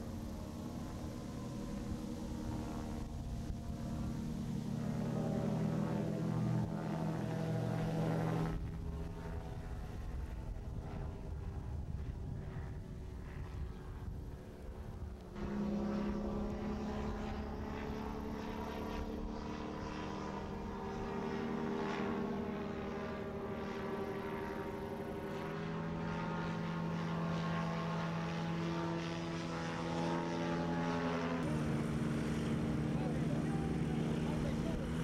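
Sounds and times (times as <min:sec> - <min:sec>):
light aircraft engine droning: 0:00.0 - 0:35.0.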